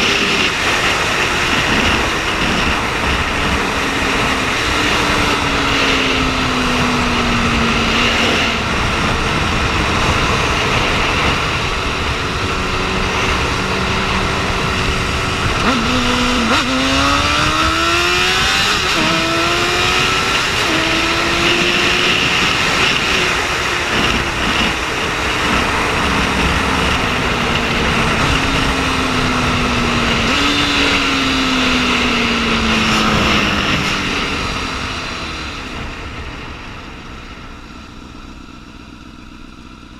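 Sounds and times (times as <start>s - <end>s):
wind rushing over microphone: 0.0s - 38.0s
motorcycle engine revving: 0.0s - 39.9s.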